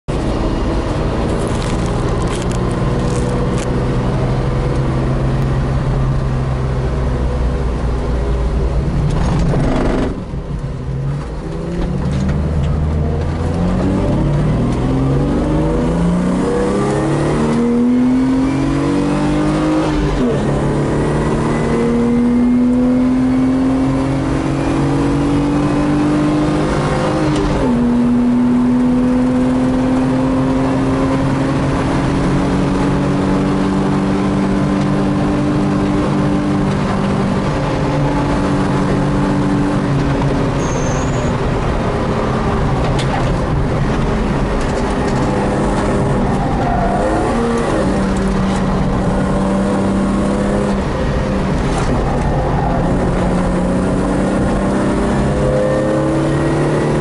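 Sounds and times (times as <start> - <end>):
car engine revving: 0.1 - 57.0.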